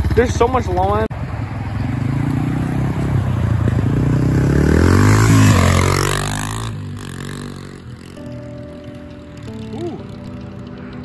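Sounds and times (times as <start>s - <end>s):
dirt bike revving past: 1.2s - 11.0s.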